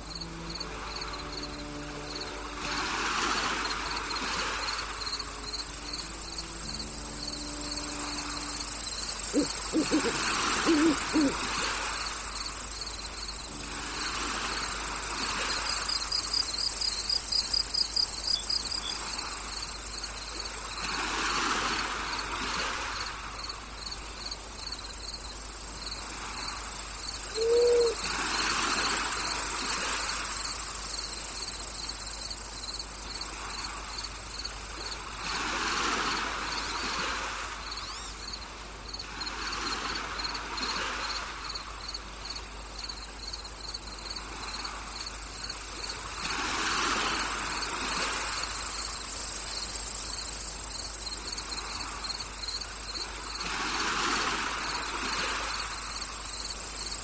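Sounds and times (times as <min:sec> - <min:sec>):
crickets chirping: 0:00.0 - 0:57.0
high insect drone: 0:00.0 - 0:57.0
soft hiss: 0:00.0 - 0:57.0.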